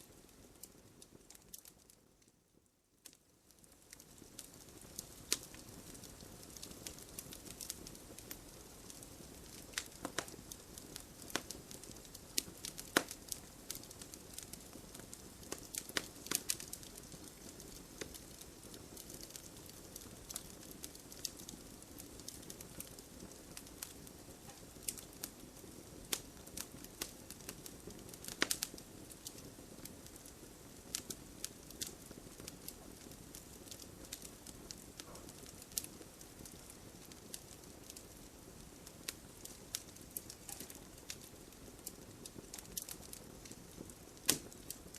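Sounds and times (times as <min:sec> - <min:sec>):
burning logs popping: 0:00.0 - 0:02.3, 0:03.0 - 0:44.9
wood fire crackling: 0:00.0 - 0:44.9
flames hissing: 0:04.2 - 0:44.9.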